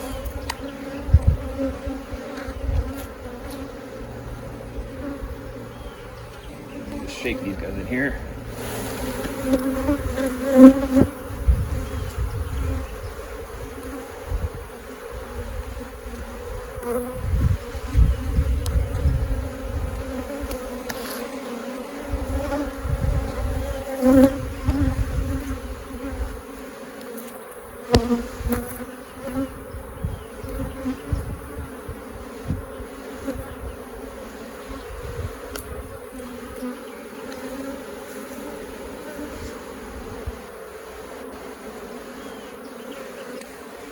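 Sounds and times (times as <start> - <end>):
honeybees buzzing: 0.0 - 43.9.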